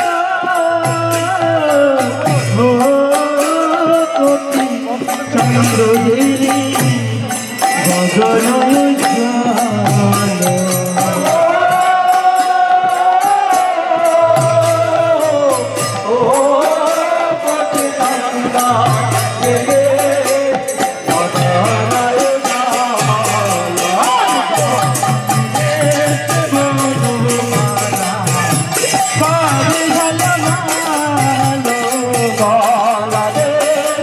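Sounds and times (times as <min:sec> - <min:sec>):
devotional chanting: 0:00.0 - 0:34.0
hand cymbals beat: 0:00.0 - 0:34.0.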